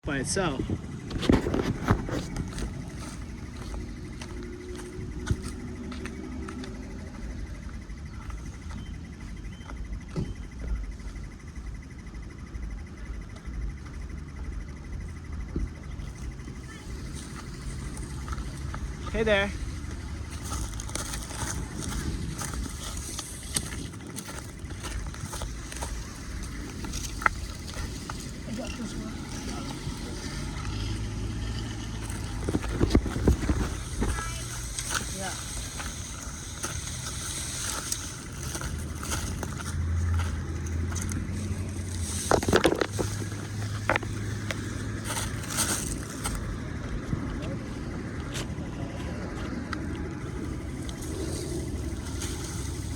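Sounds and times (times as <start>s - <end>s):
steady low rumble: 0.0s - 52.9s
vehicle engine idling: 0.0s - 52.9s
branches and leaves crackling: 1.2s - 10.0s, 16.1s - 52.9s.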